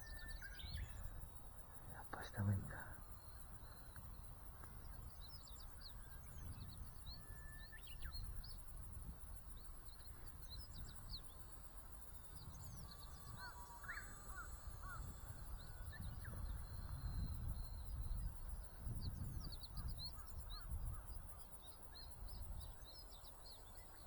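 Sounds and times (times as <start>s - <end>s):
wind on microphone: 0.0s - 23.6s
birds chirping: 0.0s - 24.0s.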